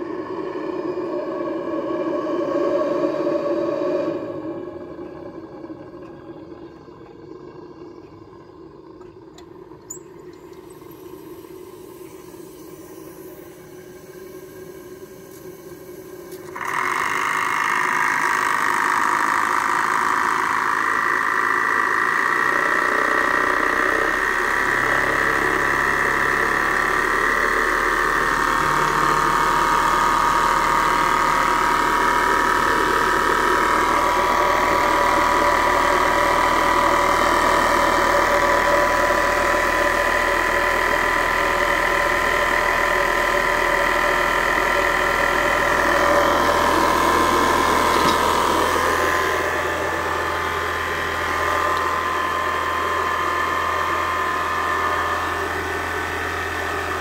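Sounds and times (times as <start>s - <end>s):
steady whine: 0.0s - 57.0s.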